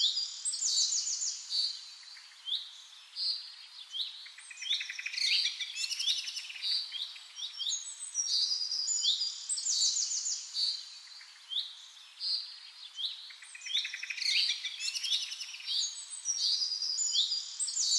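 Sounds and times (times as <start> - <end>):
songbirds trilling and chirping: 0.0 - 17.9.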